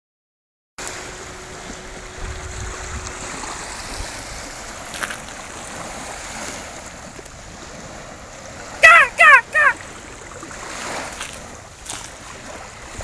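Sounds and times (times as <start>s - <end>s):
waves washing onto sandy shore: 0.8s - 13.0s.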